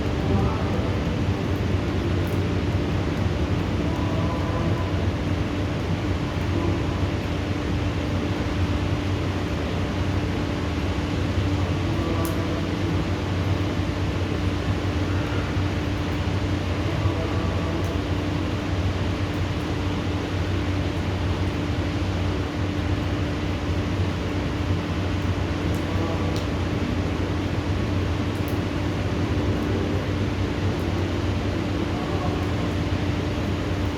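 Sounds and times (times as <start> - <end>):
low mechanical hum: 0.0 - 33.9
steady rain hiss: 0.0 - 33.9.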